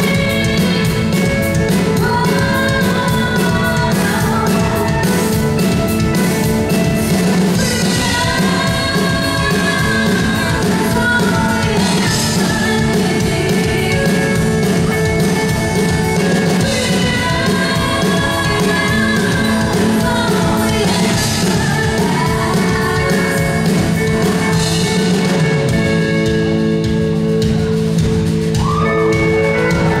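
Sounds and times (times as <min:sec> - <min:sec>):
woman singing: 0:00.0 - 0:26.2
bass guitar: 0:00.0 - 0:30.0
drum kit: 0:00.0 - 0:30.0
electric guitar: 0:00.0 - 0:30.0.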